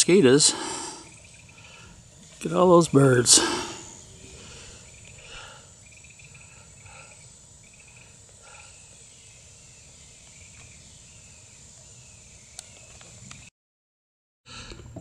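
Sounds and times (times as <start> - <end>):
birds chattering calls: 0.0 - 13.5
high-pitched insect drone: 0.0 - 13.5.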